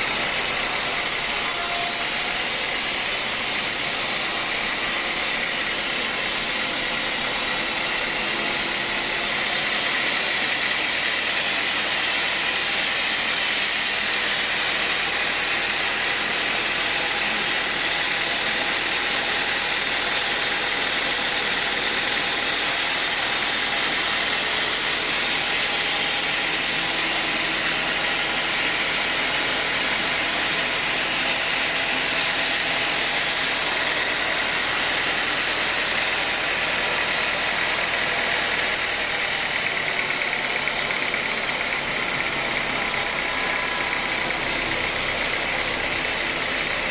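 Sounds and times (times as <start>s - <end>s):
sawmill machinery whining: 0.0s - 46.9s.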